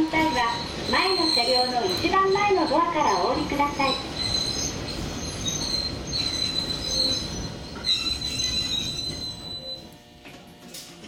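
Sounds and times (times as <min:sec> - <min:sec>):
train running rumble: 0:00.0 - 0:09.6
train wheels and brakes squealing: 0:00.0 - 0:10.0.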